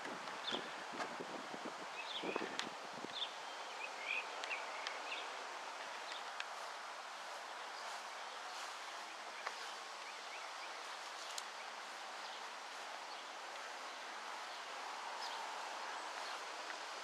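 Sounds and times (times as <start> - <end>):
leaves rustling in a breeze: 0.0 - 17.0.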